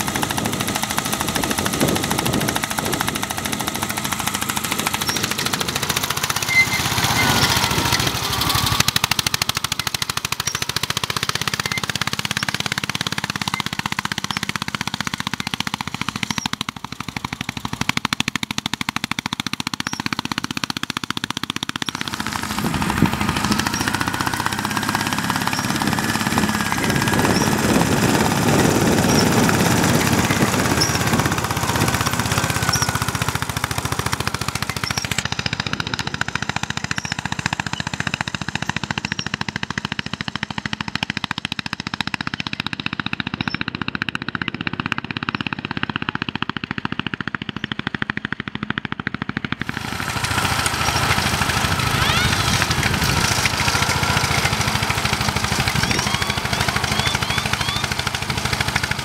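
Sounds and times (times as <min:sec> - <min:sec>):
petrol engine popping under load: 0:00.0 - 0:59.0.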